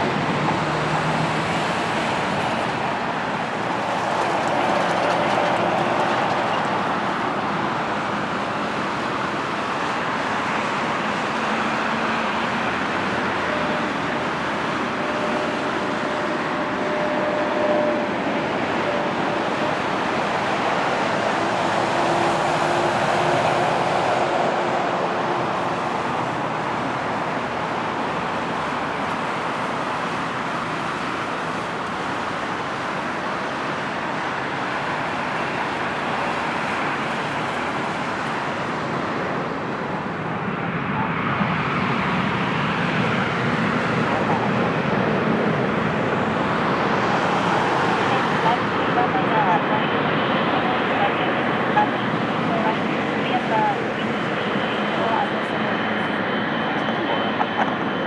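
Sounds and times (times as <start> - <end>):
jet airliner engines: 0.0 - 58.0.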